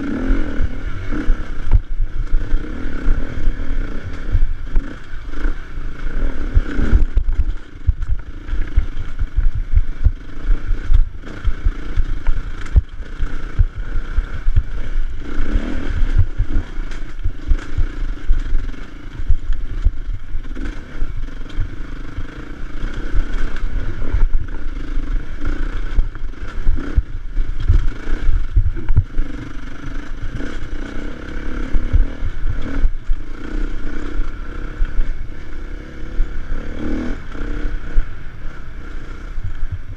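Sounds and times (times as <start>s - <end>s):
dirt bike engine under load: 0.0s - 38.6s.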